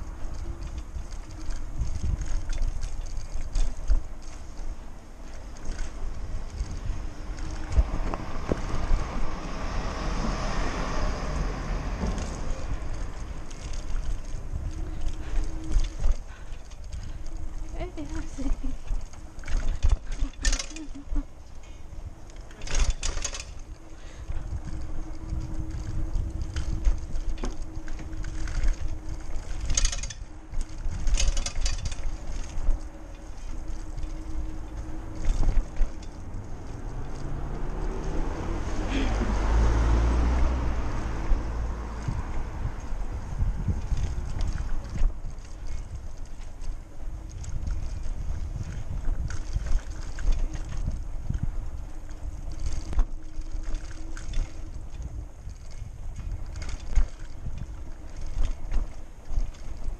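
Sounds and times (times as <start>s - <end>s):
bike road rumble: 0.0s - 59.9s
wind buffeting microphone: 0.0s - 59.9s.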